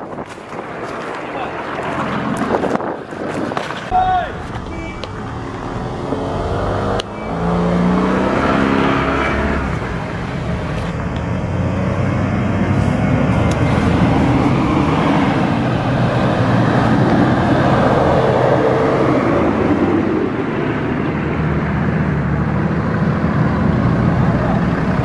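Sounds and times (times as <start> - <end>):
off-road engines revving: 0.1 - 25.0.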